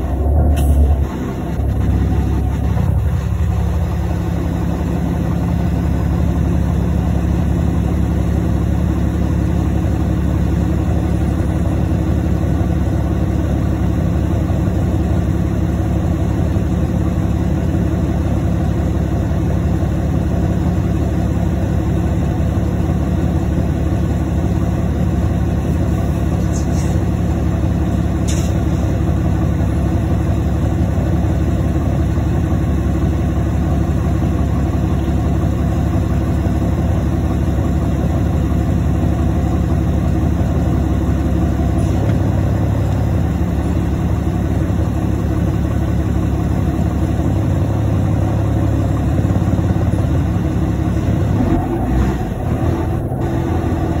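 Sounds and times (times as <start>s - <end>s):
bus diesel engine idling: 0.0s - 54.0s.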